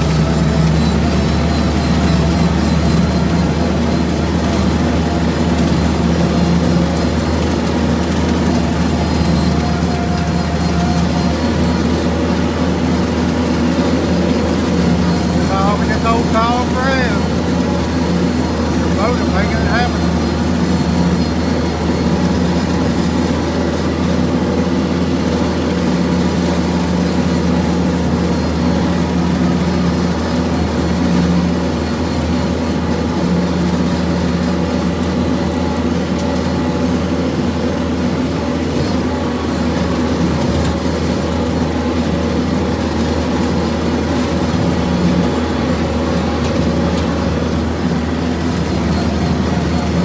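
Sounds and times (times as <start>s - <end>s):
tractor diesel engine under load: 0.0s - 50.0s.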